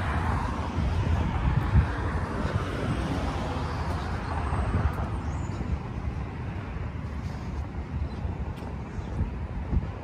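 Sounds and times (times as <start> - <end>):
car passing: 0.0 - 9.2
street traffic noise: 0.0 - 10.0
wind rumble on microphone: 0.0 - 10.0.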